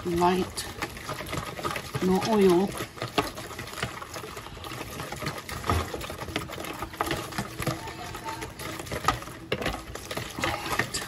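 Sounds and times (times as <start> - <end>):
whisk clicking against bowl: 0.0 - 11.0
whisk splashing liquid: 0.0 - 11.0.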